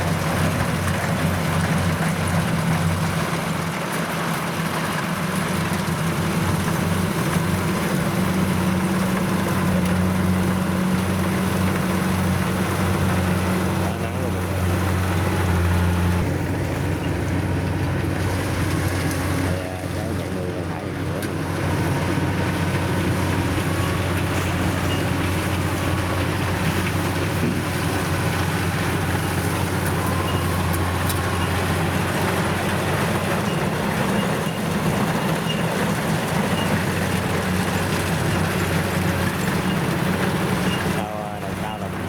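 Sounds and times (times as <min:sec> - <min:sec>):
diesel engine running steadily: 0:00.0 - 0:42.0.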